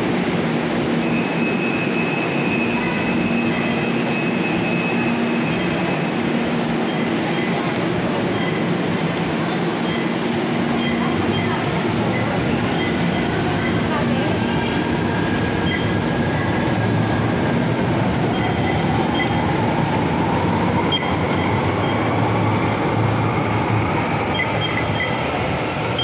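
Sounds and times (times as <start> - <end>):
train rumbling in station: 0.0 - 26.0.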